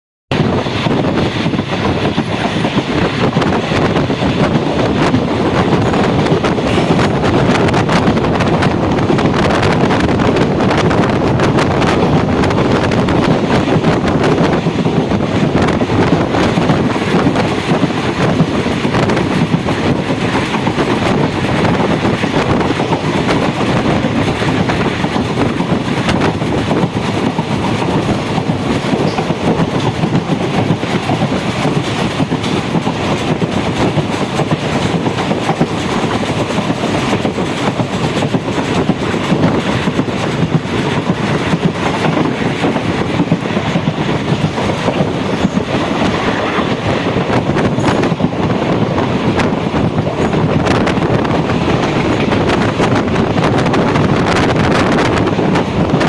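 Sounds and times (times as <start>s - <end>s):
train rumbling along track: 0.3s - 56.0s
wheels clacking over rail joints: 0.3s - 56.0s.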